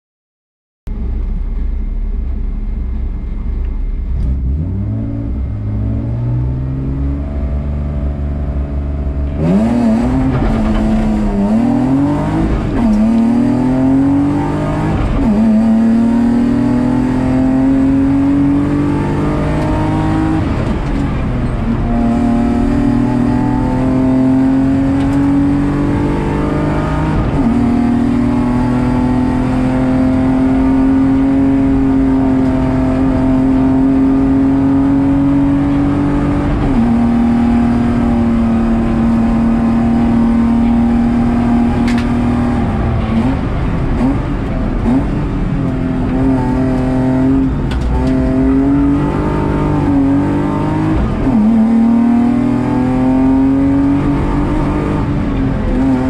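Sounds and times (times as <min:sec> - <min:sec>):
car engine revving: 0:00.9 - 0:56.0.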